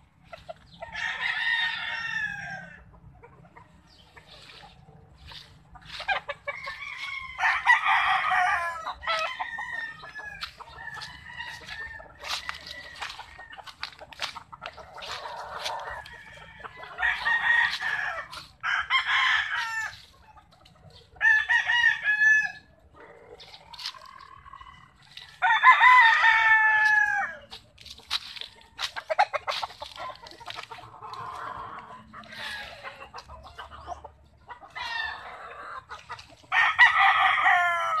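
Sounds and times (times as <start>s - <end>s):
roosters crowing: 0.0s - 3.2s, 3.8s - 20.5s, 21.1s - 38.0s
chickens clucking: 0.0s - 38.0s.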